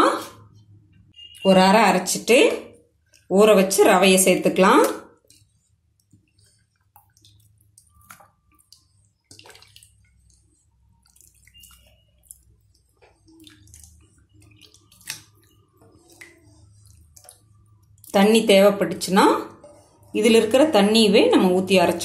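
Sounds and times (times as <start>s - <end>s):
soft wet squishes: 2.7s - 20.8s.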